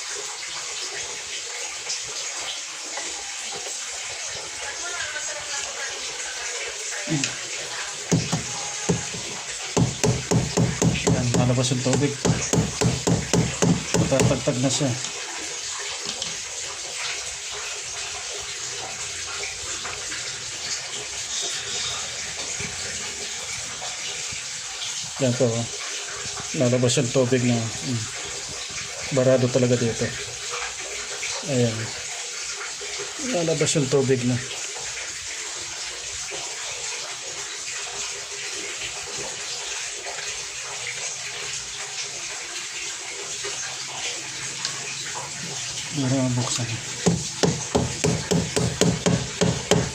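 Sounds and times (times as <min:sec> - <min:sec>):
water pouring from drain: 0:00.0 - 0:49.9.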